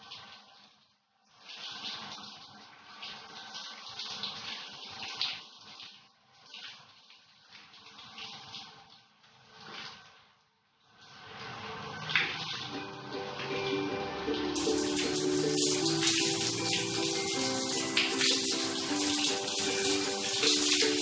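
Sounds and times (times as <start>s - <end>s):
shower water splashing: 0.0s - 21.0s.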